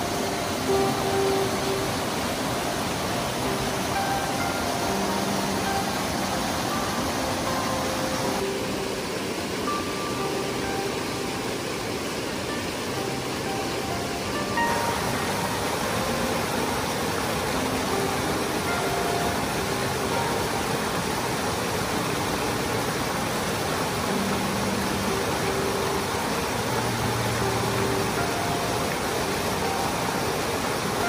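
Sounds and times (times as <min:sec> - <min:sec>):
river rushing over rapids: 0:00.0 - 0:31.0.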